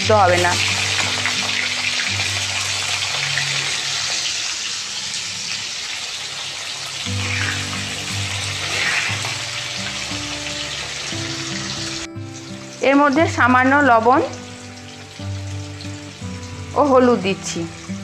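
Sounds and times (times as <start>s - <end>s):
soft background music: 0.0s - 5.6s, 6.2s - 18.0s
potatoes sizzling in oil: 0.0s - 18.0s.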